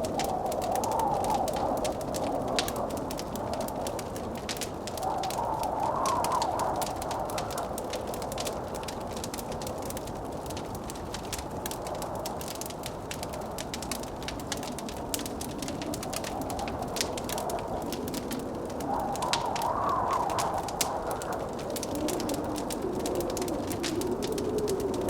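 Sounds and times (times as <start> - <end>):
blizzard wind rushing: 0.0 - 25.0
wood fire crackling and popping: 0.0 - 25.0.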